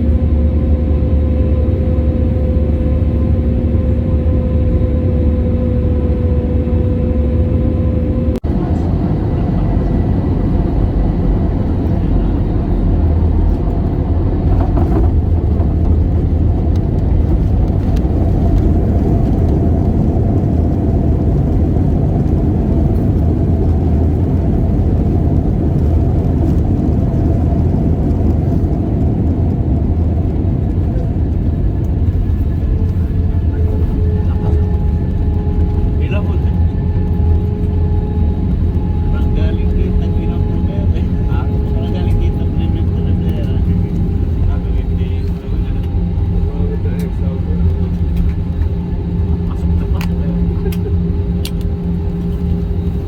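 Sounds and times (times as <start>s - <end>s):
jet engine and airflow drone: 0.0s - 53.0s.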